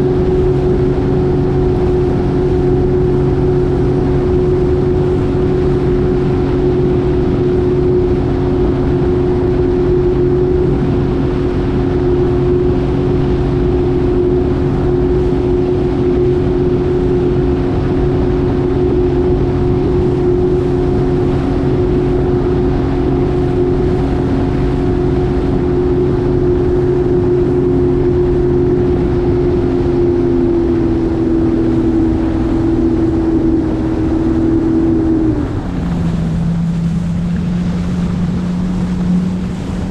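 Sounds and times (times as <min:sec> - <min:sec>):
jet ski engine running: 0:00.0 - 0:39.9
water rushing: 0:00.0 - 0:39.9.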